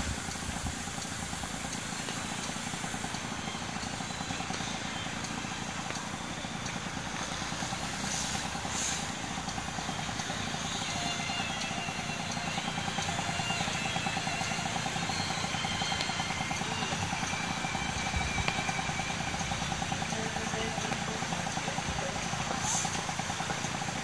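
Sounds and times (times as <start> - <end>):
street traffic: 0.0 - 24.0
truck engine rumbling: 0.0 - 24.0.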